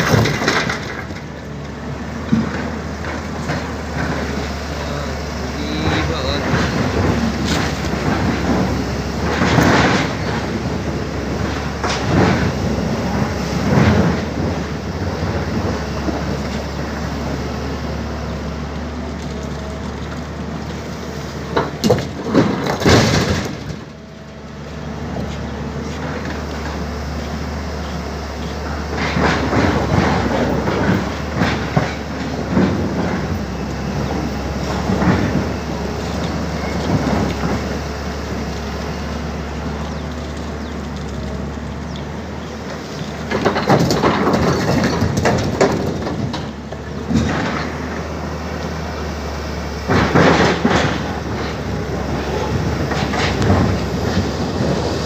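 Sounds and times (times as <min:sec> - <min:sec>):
boulders banging into truck: 0:00.0 - 0:55.0
excavator diesel engine running: 0:00.0 - 0:55.0.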